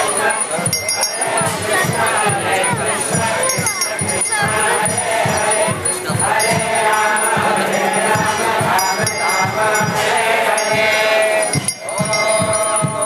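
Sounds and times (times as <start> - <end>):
crowd chanting: 0.0 - 13.0
hand cymbals ringing: 0.0 - 13.0
steady drum beat: 0.0 - 13.0.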